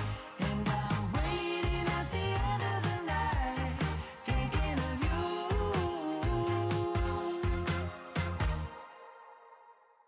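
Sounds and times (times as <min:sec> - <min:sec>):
background music with beat: 0:00.0 - 0:09.8.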